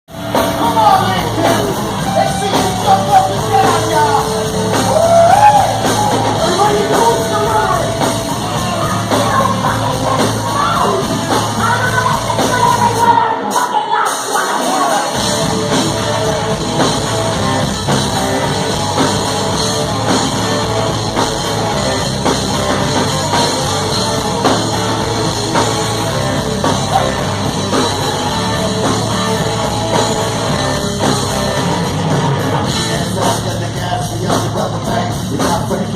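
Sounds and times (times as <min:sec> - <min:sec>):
live rock band playing: 0:00.1 - 0:35.9.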